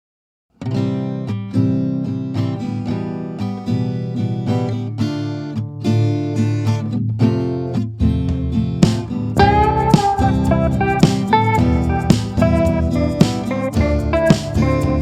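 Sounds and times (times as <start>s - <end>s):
acoustic guitar music: 0.5s - 15.0s.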